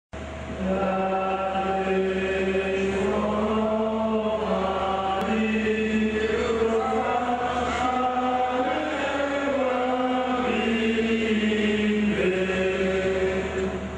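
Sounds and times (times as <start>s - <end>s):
person chanting long notes: 0.5s - 13.8s.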